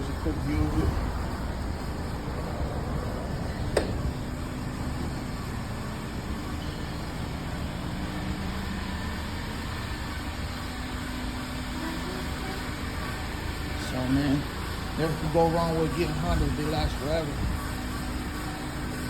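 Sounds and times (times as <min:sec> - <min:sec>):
faint steady tones: 0:00.0 - 0:19.0
vehicle low rumble: 0:00.0 - 0:19.0.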